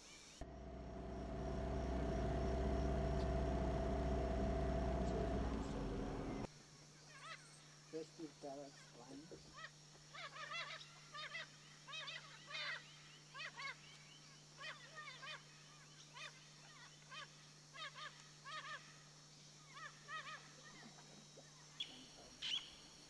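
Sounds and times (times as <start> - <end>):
faint low hum: 0.3 - 23.0.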